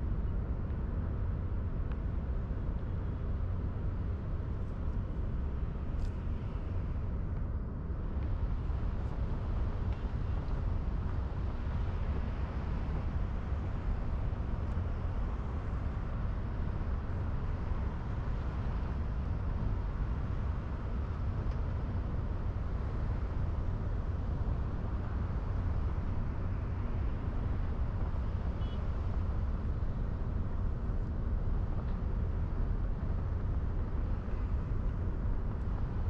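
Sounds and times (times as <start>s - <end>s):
car rumble and road noise: 0.0s - 36.0s.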